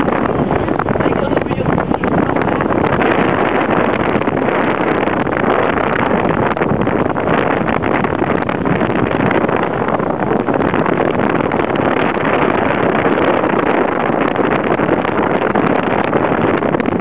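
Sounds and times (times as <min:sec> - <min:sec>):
boat engine running: 0:00.0 - 0:17.0
passing water: 0:00.0 - 0:17.0
wind blowing across microphone: 0:00.0 - 0:17.0.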